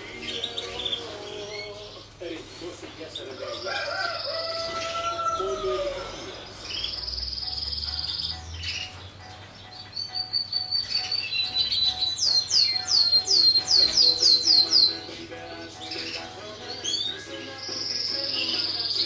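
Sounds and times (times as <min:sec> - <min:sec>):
faint background music: 0:00.0 - 0:19.0
finches chirping and trilling: 0:00.0 - 0:19.0.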